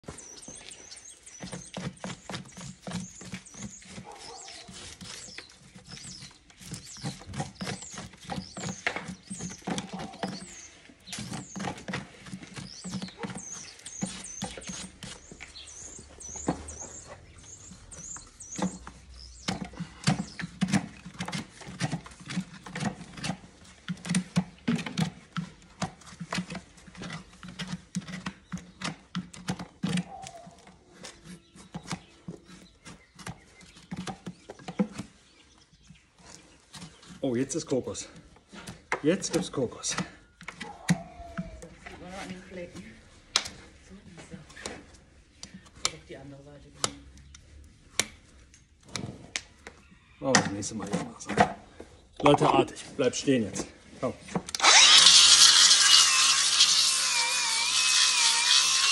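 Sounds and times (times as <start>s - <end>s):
stiff brush scrubbing hoof: 0.0s - 49.4s, 52.4s - 58.9s.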